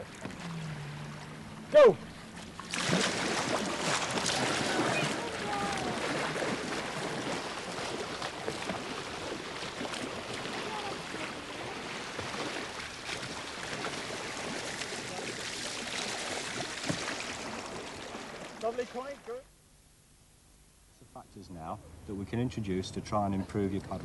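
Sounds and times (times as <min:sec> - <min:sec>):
paddle splashing water: 0:00.0 - 0:19.5
water rushing along hull: 0:00.0 - 0:19.5, 0:21.5 - 0:24.0.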